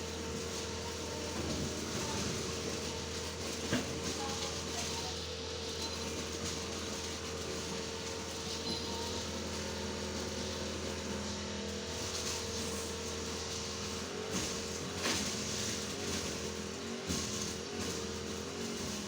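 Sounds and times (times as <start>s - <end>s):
motor running with low hum: 0.0s - 19.0s.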